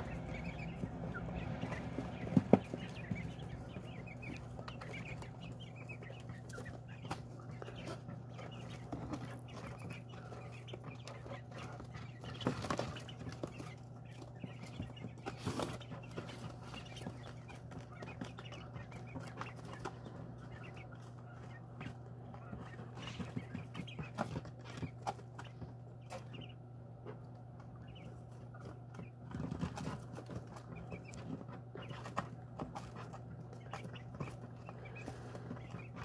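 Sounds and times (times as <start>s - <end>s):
quail clucking and calling: 0.0s - 36.0s
steady low hum: 0.0s - 36.0s.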